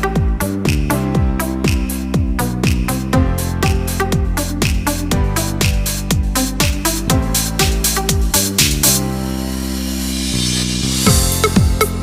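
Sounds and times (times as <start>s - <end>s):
kick drum: 0.0s - 9.0s, 11.1s - 12.0s
electronic dance music: 0.0s - 12.0s.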